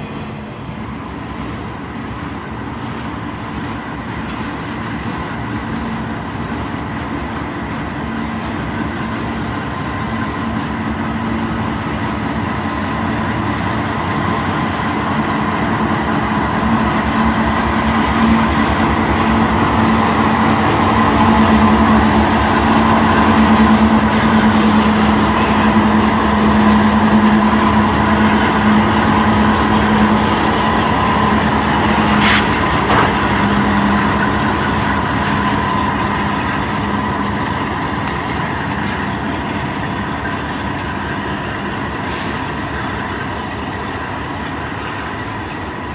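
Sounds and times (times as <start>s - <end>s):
locomotive engines droning: 0.0s - 45.9s
wheels clattering on rail: 0.0s - 45.9s.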